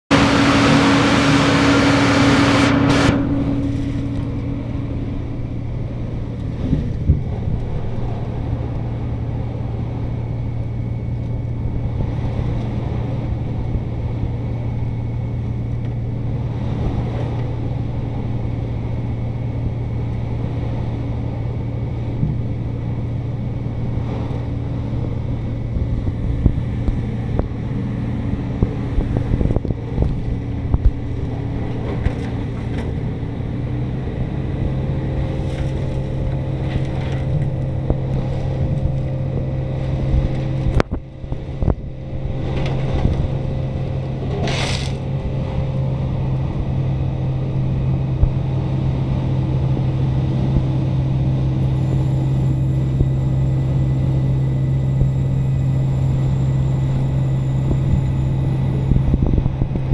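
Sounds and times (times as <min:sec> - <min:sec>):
vacuum truck drone: 0:00.0 - 0:59.9.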